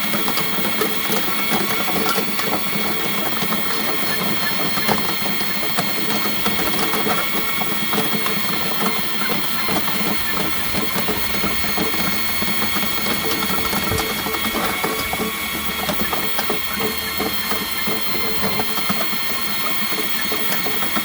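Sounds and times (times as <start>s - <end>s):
drain snake motor whine: 0.0s - 21.0s
cable clicking and rattling: 0.1s - 21.0s.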